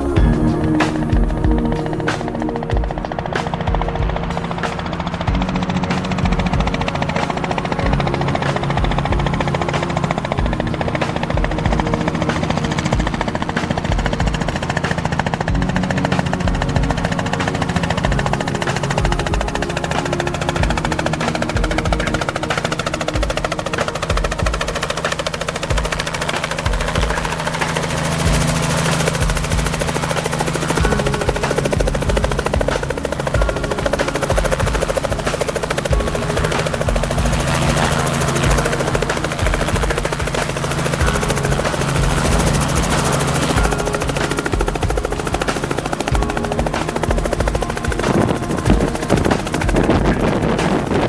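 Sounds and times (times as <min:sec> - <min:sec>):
helicopter engine hum: 0:00.0 - 0:51.0
helicopter rotor beat: 0:00.0 - 0:51.0.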